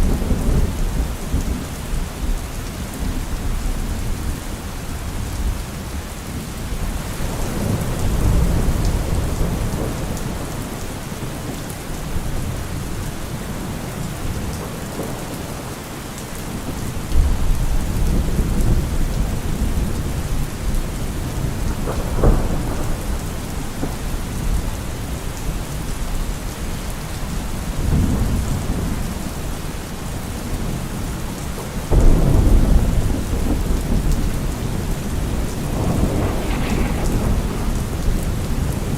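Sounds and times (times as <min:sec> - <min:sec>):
heavy rain on a car roof: 0:00.0 - 0:38.9
low rolling thunder: 0:00.0 - 0:38.9.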